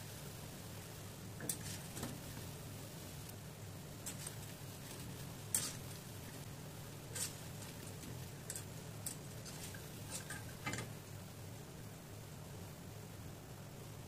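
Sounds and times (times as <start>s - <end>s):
oil crackling from deep-frying: 0.0s - 14.0s
steady low hum: 0.0s - 14.0s.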